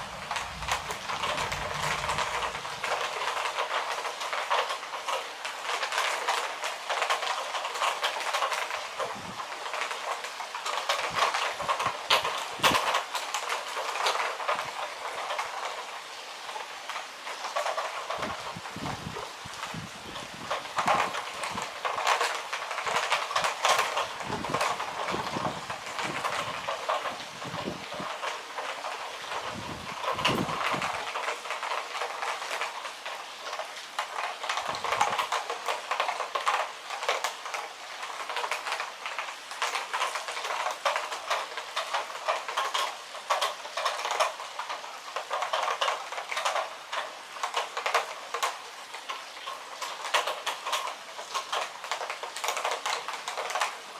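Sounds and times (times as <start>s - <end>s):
heavy rain on hard surface: 0.0s - 53.9s.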